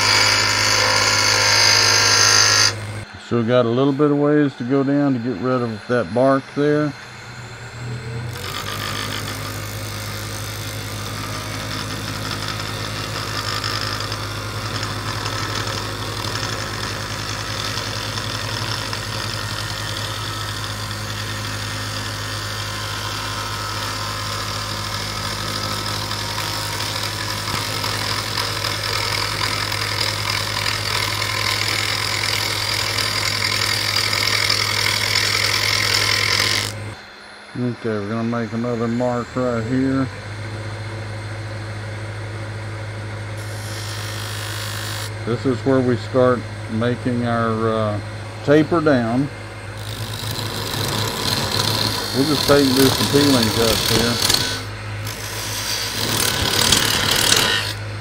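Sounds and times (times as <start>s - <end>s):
turning tool cutting wood: 0.0s - 37.0s, 43.4s - 58.0s
lathe motor hum: 0.0s - 58.0s.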